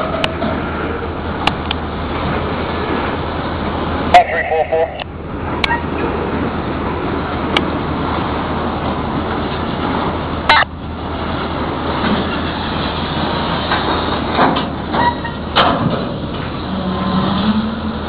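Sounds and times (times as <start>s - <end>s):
train cars clanking and knocking: 0.0s - 4.1s, 5.1s - 18.0s
freight train rumbling past: 0.0s - 18.0s.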